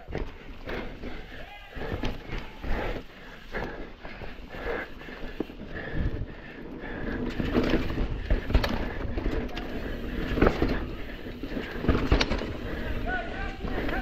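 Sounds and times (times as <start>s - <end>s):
bike rattling: 0.0s - 14.0s
tyres rolling over dirt and stones: 0.0s - 14.0s.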